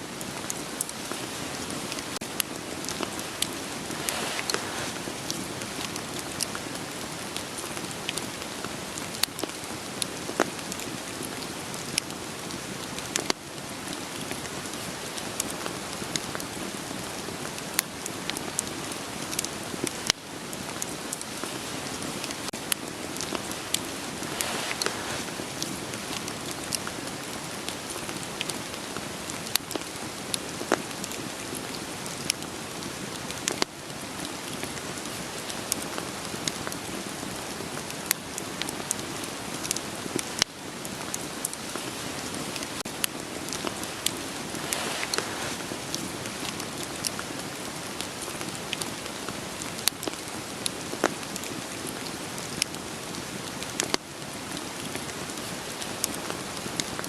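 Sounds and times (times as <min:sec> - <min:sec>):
rain hiss: 0:00.0 - 0:57.0
firewood crackling and popping: 0:00.1 - 0:57.0.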